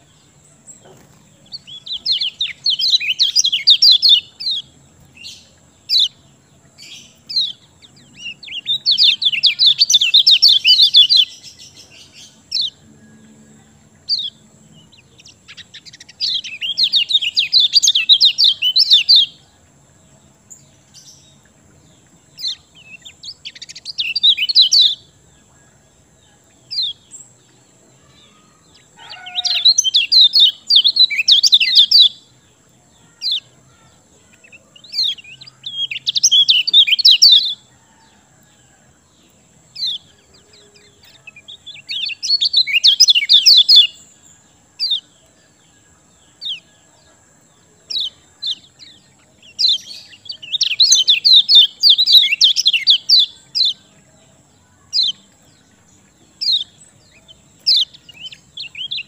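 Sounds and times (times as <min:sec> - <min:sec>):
songbird twittering: 0:00.0 - 0:38.8, 0:39.6 - 0:59.0.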